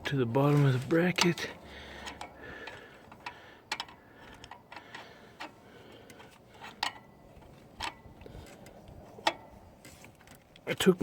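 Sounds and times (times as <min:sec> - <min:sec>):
hand tools clicking on metal: 0:00.0 - 0:10.7.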